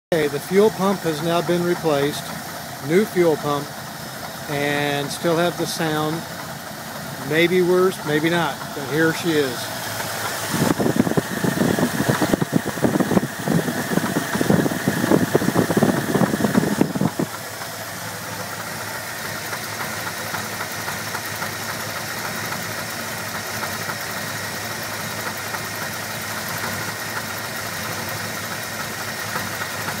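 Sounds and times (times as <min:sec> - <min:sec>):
engine running: 0:00.1 - 0:30.0.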